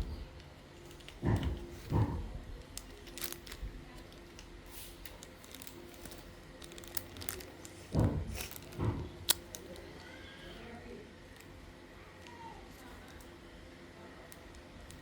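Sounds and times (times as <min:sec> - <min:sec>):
rustling crinkling handling noises: 0:00.0 - 0:15.0.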